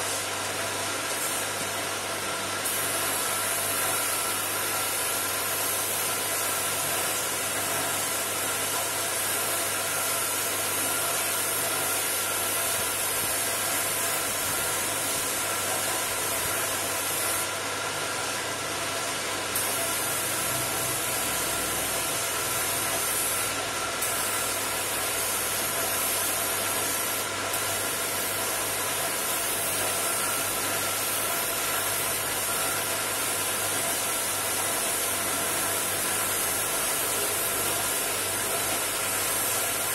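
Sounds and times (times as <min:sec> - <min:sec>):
paint spray gun hissing: 0:01.0 - 0:01.7, 0:02.6 - 0:17.5, 0:19.6 - 0:39.9.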